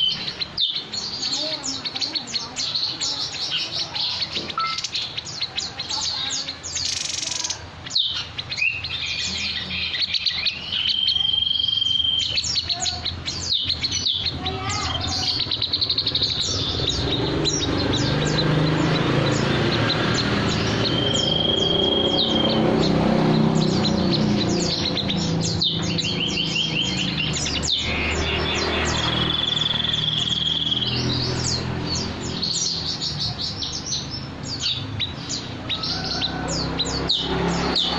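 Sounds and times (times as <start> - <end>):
songbird chirping and trilling: 0.0 - 37.9.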